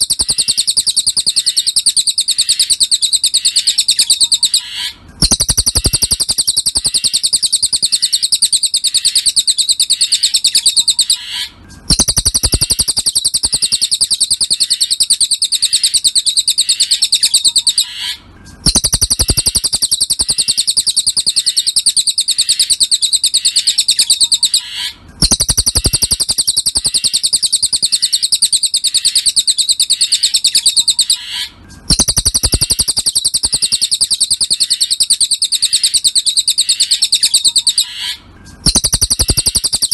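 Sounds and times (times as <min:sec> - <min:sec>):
songbird chattering high chirps: 0:00.0 - 0:39.9.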